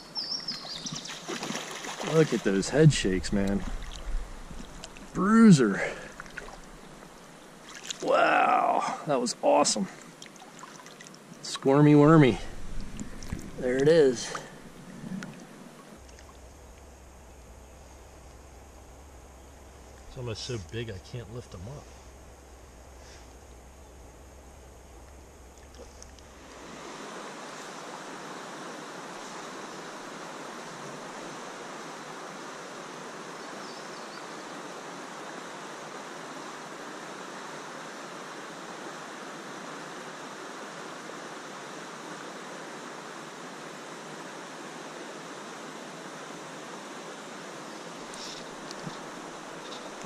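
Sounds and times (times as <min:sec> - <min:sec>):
creek water rushing: 0:00.0 - 0:16.7, 0:25.5 - 0:50.0.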